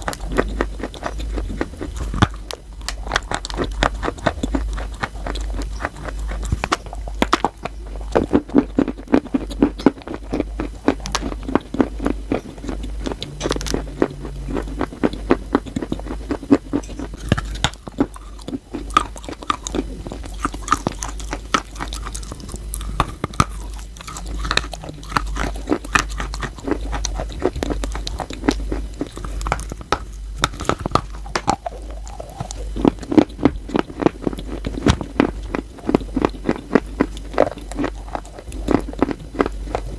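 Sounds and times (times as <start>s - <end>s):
chewing wet chalk: 0.0s - 39.9s.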